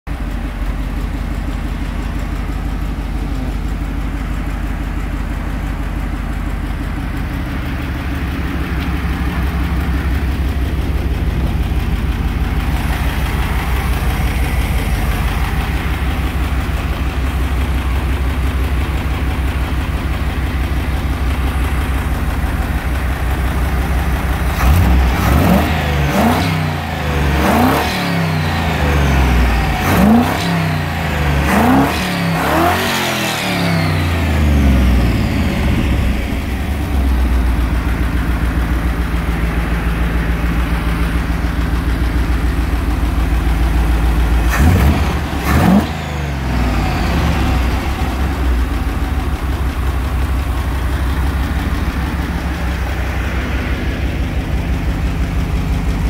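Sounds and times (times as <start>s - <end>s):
engine idling and revving: 0.0s - 56.0s.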